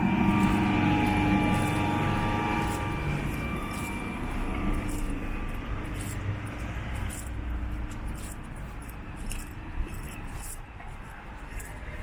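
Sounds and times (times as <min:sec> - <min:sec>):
low traffic rumble: 0:00.0 - 0:12.0
passing vehicle engine hum: 0:00.0 - 0:12.0.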